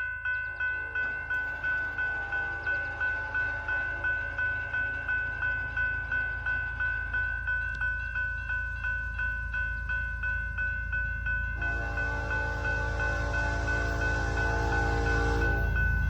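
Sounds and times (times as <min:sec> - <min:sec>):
crossing warning bell ringing: 0:00.0 - 0:16.0
freight train rumble: 0:00.0 - 0:16.0.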